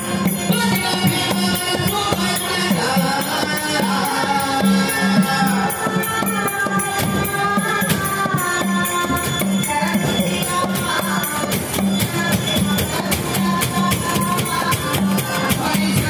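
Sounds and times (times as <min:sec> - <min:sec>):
jingling rattling percussion: 0:00.0 - 0:16.0.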